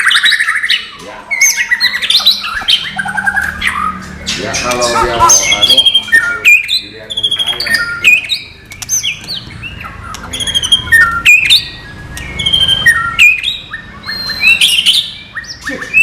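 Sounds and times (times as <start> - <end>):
bird singing whistles and chirps: 0.0 - 16.0.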